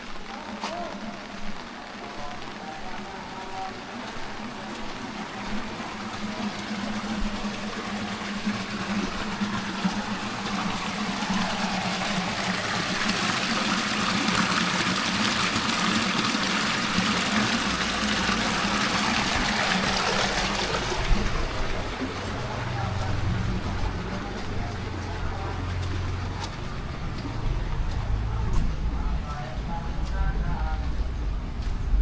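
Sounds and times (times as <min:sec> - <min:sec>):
running water: 0:00.0 - 0:32.0.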